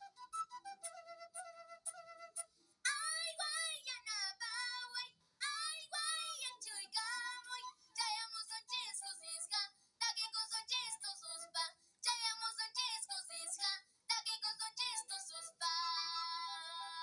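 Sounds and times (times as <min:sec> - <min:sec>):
child singing: 0:02.9 - 0:17.0.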